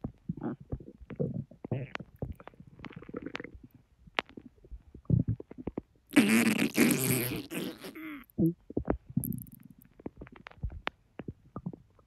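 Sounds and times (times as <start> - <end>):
stomach gurgling: 0.0 - 12.0.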